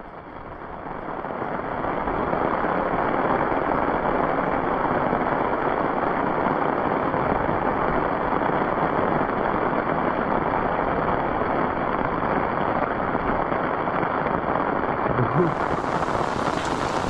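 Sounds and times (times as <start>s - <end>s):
heavy rain pouring: 2.2s - 17.0s.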